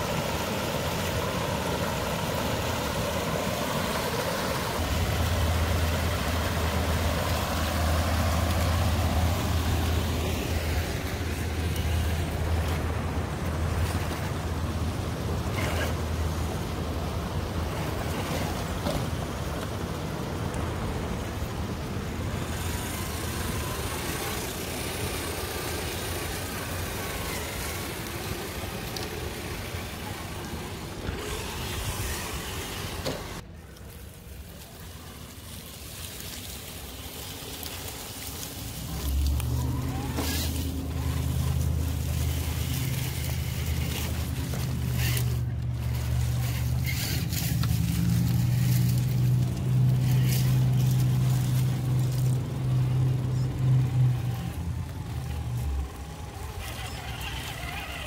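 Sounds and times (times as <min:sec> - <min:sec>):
toy trucks driving through mud: 0:00.0 - 0:58.0.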